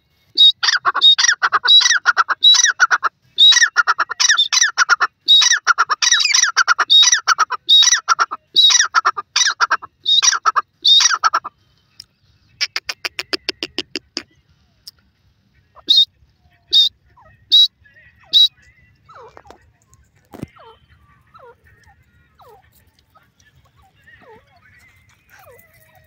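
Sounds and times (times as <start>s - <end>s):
francolin calling: 0.4s - 11.5s, 15.7s - 26.0s.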